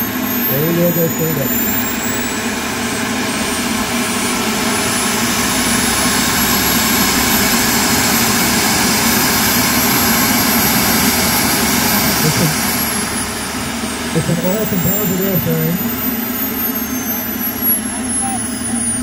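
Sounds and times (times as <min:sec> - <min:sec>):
exhaust rush: 0:00.0 - 0:19.0
jet turbine whine: 0:00.0 - 0:19.0.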